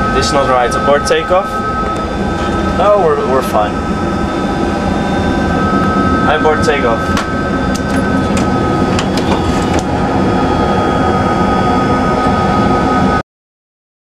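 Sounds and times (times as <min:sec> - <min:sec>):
jet engine rumble: 0:00.0 - 0:13.2
steady high whine: 0:00.0 - 0:13.2.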